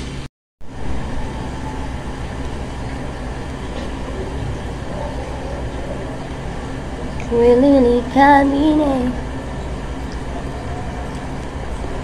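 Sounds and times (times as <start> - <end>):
low rumble and hum: 0.0 - 12.0.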